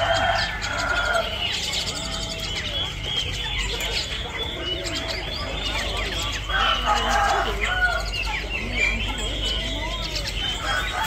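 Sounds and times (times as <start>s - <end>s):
caged birds chirping: 0.0s - 11.0s.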